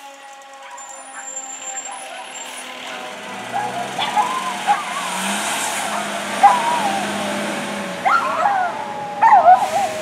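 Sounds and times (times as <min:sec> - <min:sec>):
low traffic hum: 0:00.0 - 0:10.0
dog barking and yelping: 0:00.6 - 0:07.2, 0:08.0 - 0:10.0.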